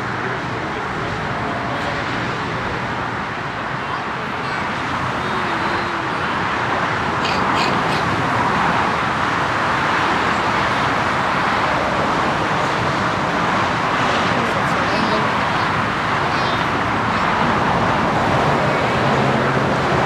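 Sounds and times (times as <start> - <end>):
jet airliner engines running: 0.0 - 20.0.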